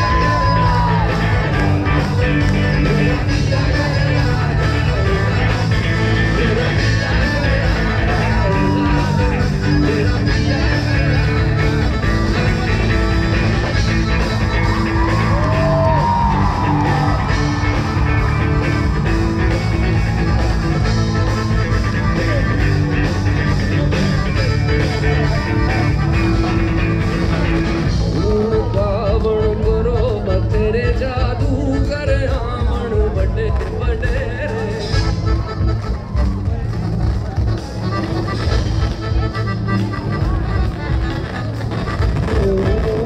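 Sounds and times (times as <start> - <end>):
live rock band over loudspeakers: 0.0 - 43.0.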